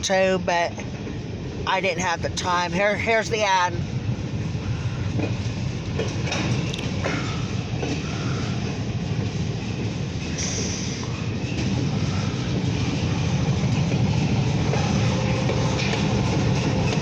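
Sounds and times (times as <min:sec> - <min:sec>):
diesel locomotive engine: 0:00.0 - 0:17.0
train wheels rumbling: 0:00.0 - 0:17.0.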